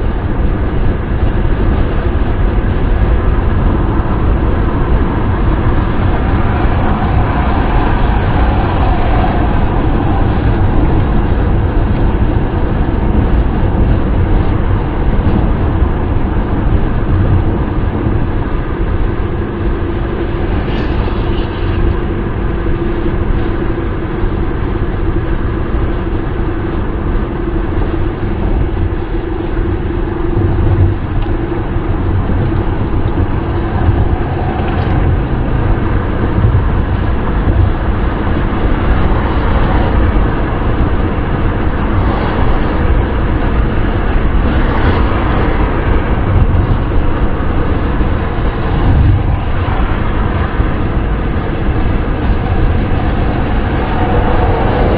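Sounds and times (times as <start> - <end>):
car road and wind noise: 0.0 - 54.9.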